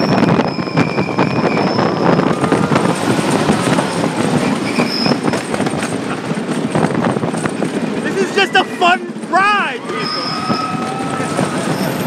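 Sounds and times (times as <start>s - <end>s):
high wheel squeal: 0.0s - 6.4s, 7.8s - 12.0s
roller coaster rattling on wooden track: 0.0s - 12.0s.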